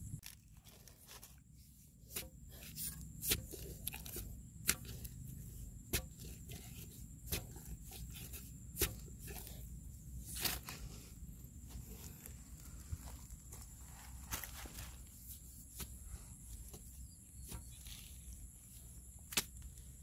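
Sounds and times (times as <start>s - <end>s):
dry mud cracking and crunching: 0.1s - 16.8s.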